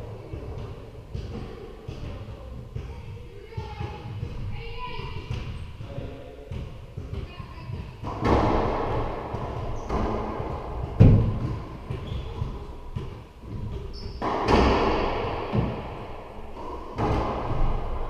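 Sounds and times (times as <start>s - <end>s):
racquetball hits echoing: 0.0s - 18.0s.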